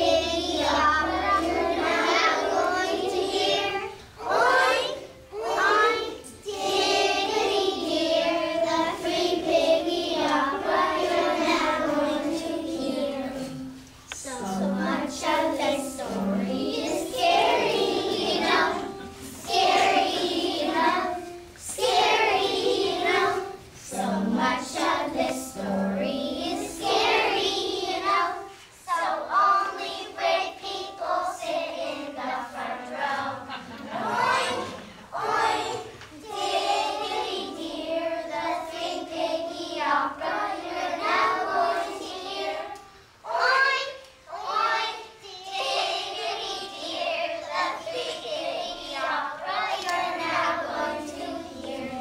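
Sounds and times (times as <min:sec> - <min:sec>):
children singing in unison: 0:00.0 - 0:52.0.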